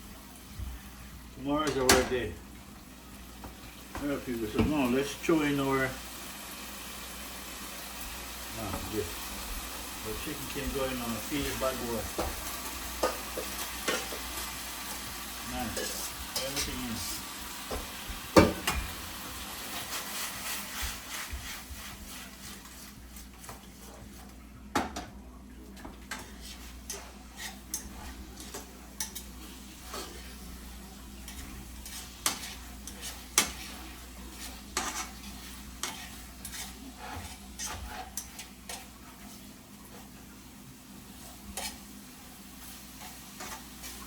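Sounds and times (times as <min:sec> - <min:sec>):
chicken sizzling in a pot: 0:00.0 - 0:44.0.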